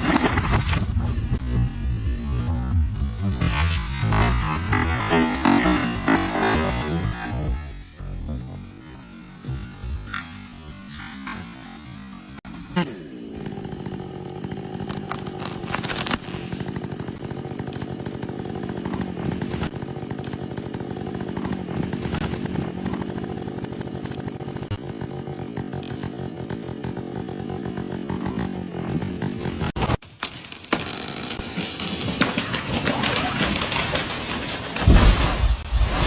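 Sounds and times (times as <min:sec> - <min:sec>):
chainsaw cutting tree: 0:00.0 - 0:36.0.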